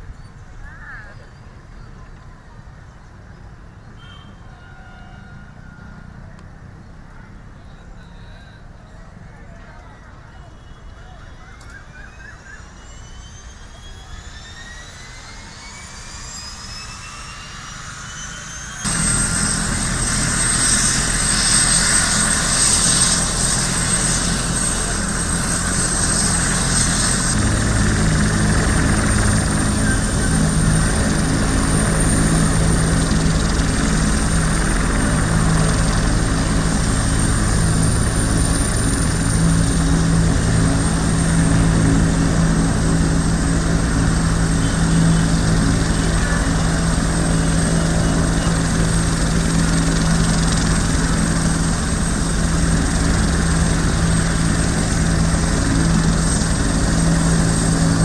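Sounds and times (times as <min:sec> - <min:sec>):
helicopter drone with high whine: 0:00.0 - 0:58.0.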